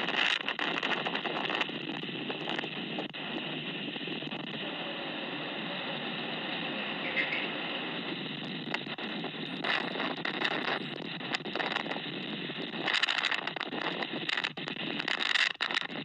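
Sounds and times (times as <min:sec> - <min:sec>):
blizzard wind buffeting microphone: 0:00.0 - 0:16.0
sharp crackles: 0:00.0 - 0:16.0.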